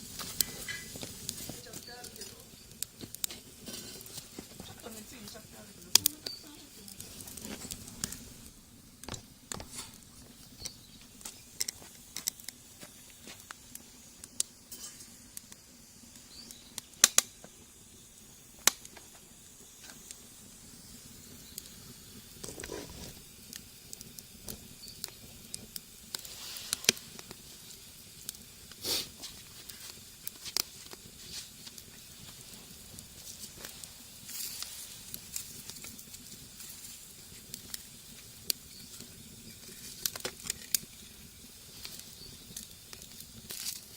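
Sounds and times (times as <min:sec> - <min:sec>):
fire hissing softly: 0:00.0 - 0:43.9
wood fire crackling and popping: 0:00.0 - 0:43.9.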